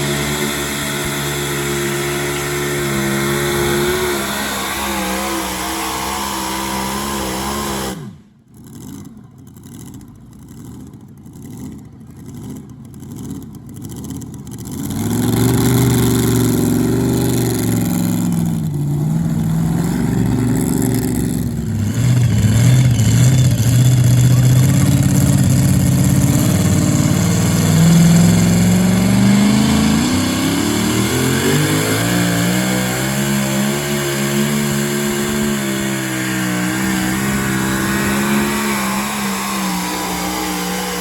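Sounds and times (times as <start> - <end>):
engine with wavering pitch: 0.0 - 41.0
truck engine running hard: 0.0 - 41.0.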